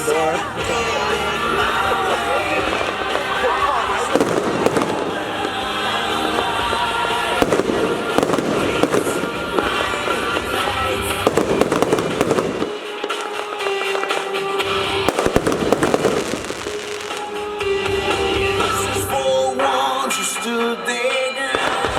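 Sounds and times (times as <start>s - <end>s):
fireworks banging: 0.0s - 20.2s, 21.4s - 21.9s
loud music: 0.0s - 21.9s.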